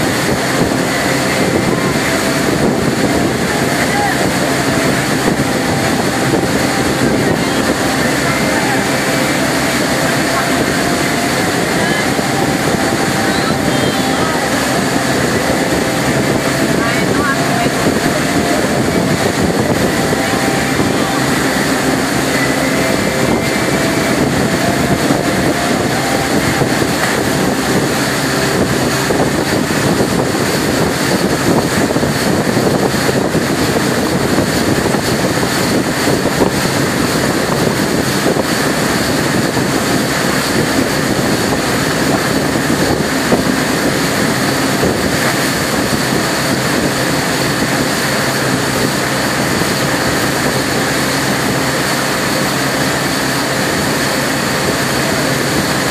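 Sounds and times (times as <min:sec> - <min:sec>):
boat engine running: 0:00.0 - 0:55.9
churning wake water: 0:00.0 - 0:55.9
wind buffeting microphone: 0:00.0 - 0:55.9.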